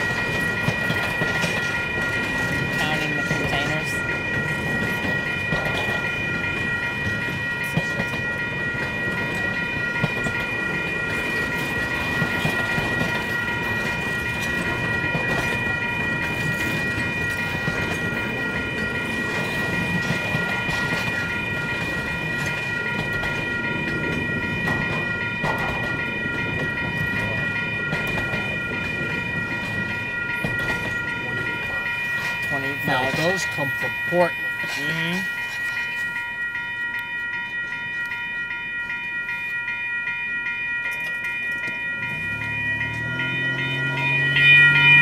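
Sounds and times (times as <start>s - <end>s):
wheels clicking over rail joints: 0.0s - 38.1s
high-pitched ringing tones: 0.0s - 45.0s
train wheels rumbling on rails: 0.0s - 45.0s.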